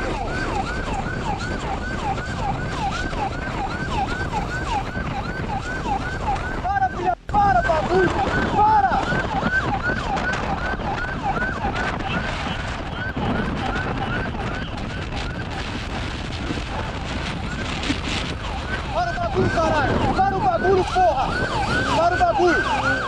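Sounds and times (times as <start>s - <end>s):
police siren yelping: 0.0s - 23.0s
road and wind noise: 0.0s - 23.0s.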